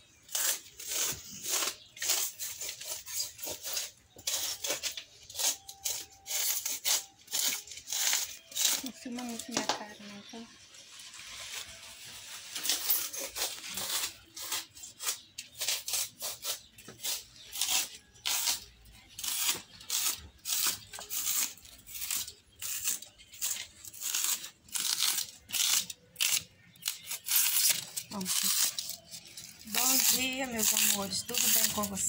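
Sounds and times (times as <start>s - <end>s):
styrofoam being cut: 0.2s - 9.8s, 11.2s - 32.0s.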